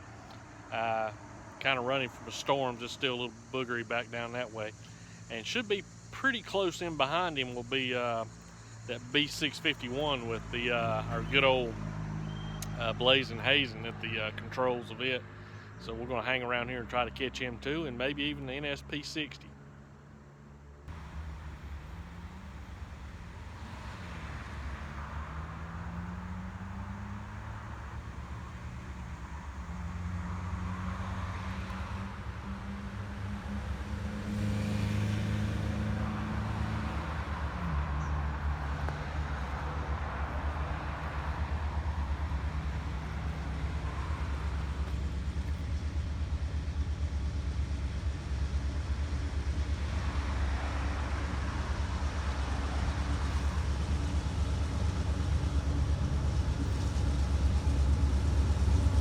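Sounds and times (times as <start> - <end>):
low engine rumble: 0.0 - 18.6, 20.9 - 59.0.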